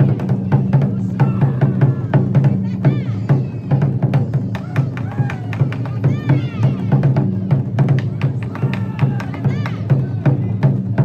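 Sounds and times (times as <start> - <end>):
taiko drum ensemble playing: 0.0 - 11.0.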